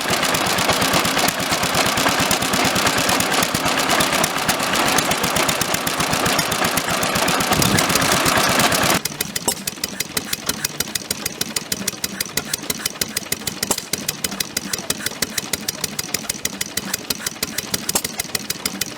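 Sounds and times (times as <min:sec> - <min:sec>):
stationary engines running: 0:00.0 - 0:18.9.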